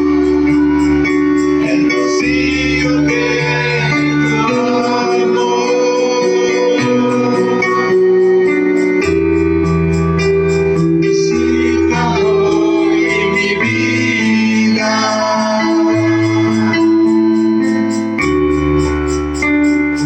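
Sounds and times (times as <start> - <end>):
organ keyboard worship music: 0.0 - 20.0.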